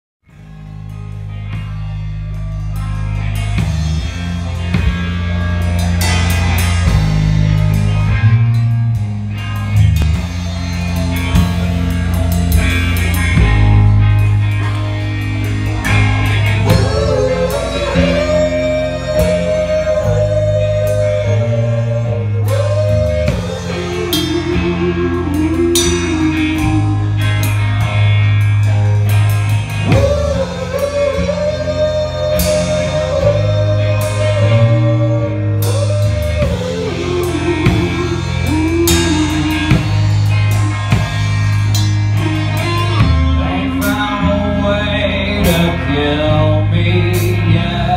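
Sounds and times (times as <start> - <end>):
drum kit: 0.2 - 47.9
electric bass: 0.2 - 47.9
electric guitar: 0.2 - 47.9.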